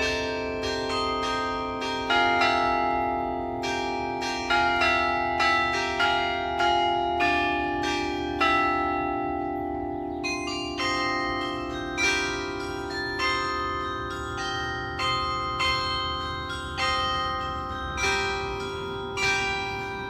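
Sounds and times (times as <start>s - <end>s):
carillon bells playing slow tune: 0.0s - 20.0s.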